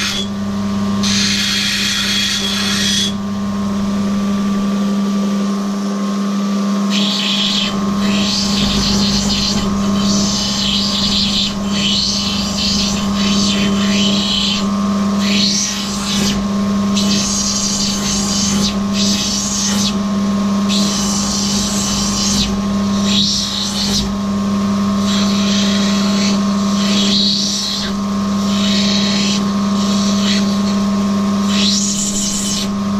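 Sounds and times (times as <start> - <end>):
stone rasping on grinding wheel: 0.0 - 3.2, 6.9 - 32.9
grinding machine motor humming: 0.0 - 32.9.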